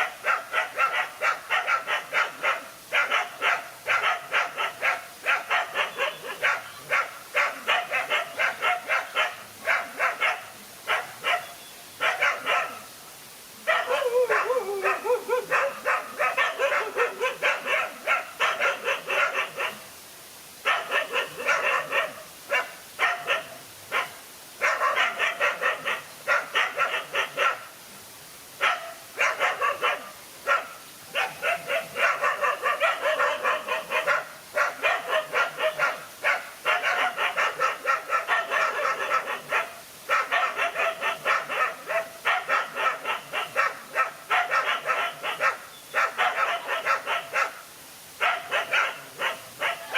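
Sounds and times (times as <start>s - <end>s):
dogs barking: 0.0s - 12.9s, 13.6s - 19.8s, 20.6s - 27.7s, 28.6s - 47.6s, 48.2s - 49.9s.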